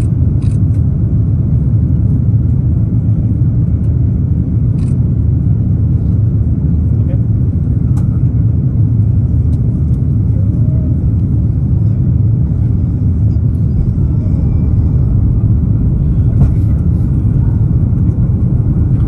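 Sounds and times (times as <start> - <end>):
aircraft cabin engine rumble: 0.0 - 19.0.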